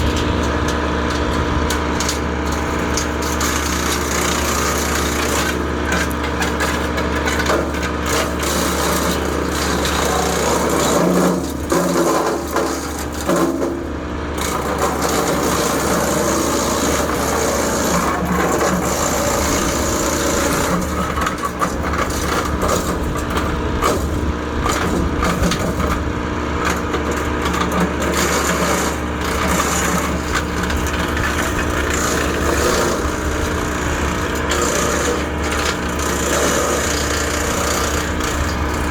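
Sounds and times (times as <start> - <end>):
wood chipper engine drone: 0.0 - 38.9.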